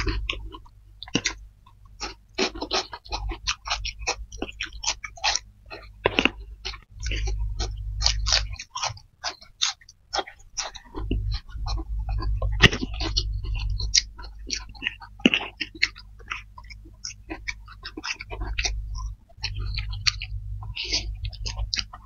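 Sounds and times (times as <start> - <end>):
people chewing noodles: 0.0 - 22.0.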